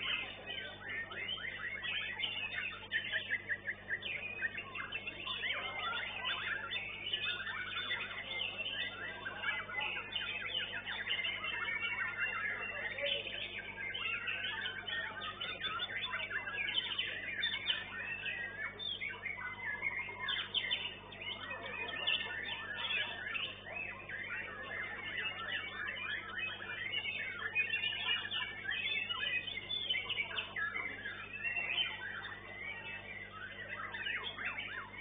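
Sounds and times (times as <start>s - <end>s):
bird singing whistles and chirps: 0.0s - 35.0s.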